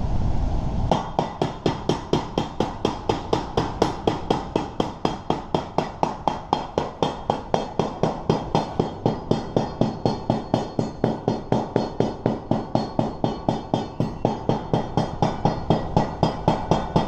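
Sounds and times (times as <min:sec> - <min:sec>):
rapid sharp knocks: 0:00.9 - 0:17.0.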